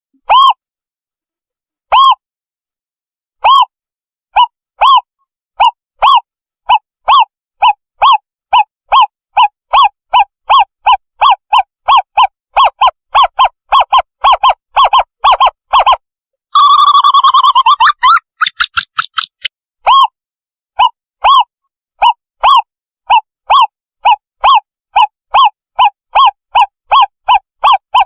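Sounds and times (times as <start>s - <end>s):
owl wavering trill: 1.9s - 2.2s, 3.4s - 3.7s, 4.4s - 20.1s, 20.8s - 28.0s.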